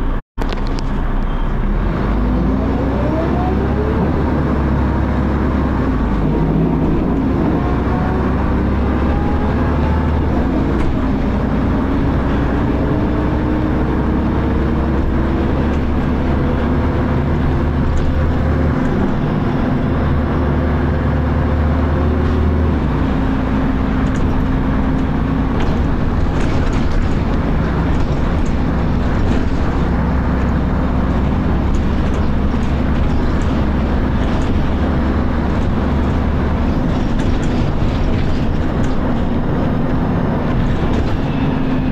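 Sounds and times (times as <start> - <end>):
low bus engine drone: 0.0 - 41.9
bus gearbox whine: 3.5 - 41.9.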